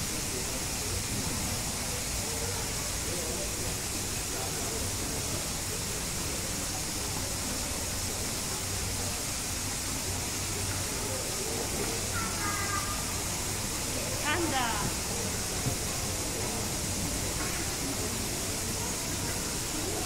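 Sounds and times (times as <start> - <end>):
background hiss: 0.0 - 20.0
distant voices murmuring: 0.0 - 20.0.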